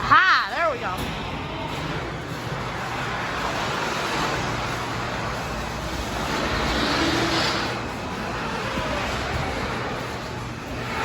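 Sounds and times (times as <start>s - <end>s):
engine running: 1.1s - 11.0s
rushing noise: 1.2s - 11.0s.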